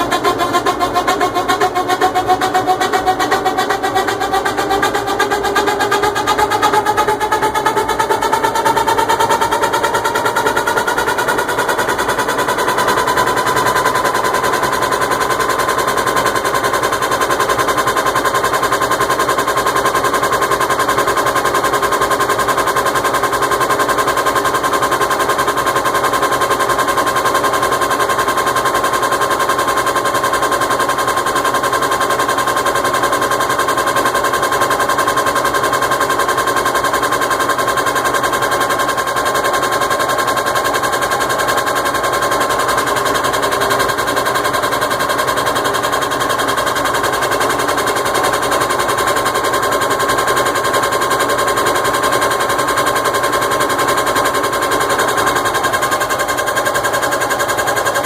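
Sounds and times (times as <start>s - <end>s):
fast continuous rattling: 0.0s - 58.0s
washing machine motor whine: 0.0s - 58.0s.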